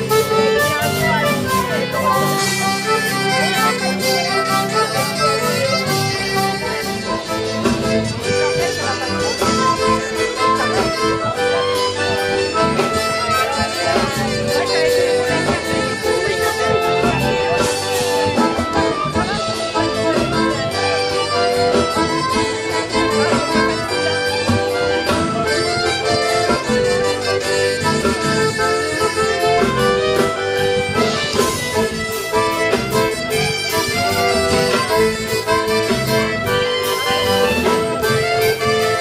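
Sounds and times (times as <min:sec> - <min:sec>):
accordion: 0:00.0 - 0:39.0
fiddle: 0:00.0 - 0:39.0
guitar: 0:00.0 - 0:39.0.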